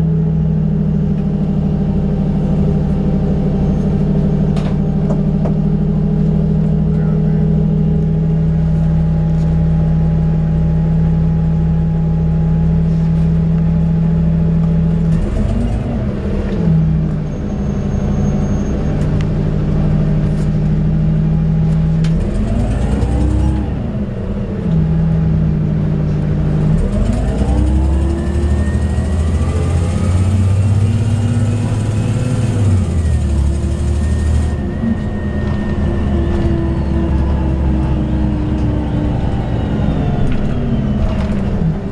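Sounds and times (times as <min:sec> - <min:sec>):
bus engine droning: 0:00.0 - 0:41.9.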